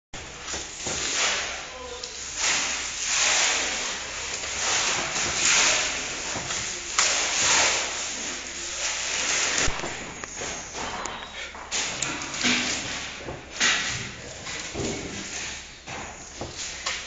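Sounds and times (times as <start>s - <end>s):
willow rods swishing and rustling: 0.4s - 11.0s, 11.7s - 17.0s.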